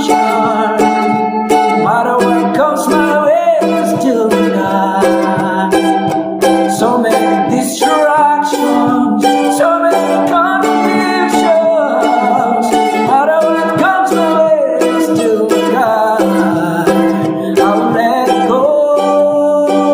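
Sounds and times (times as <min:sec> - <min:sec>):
mandolin picking: 0:00.0 - 0:19.9.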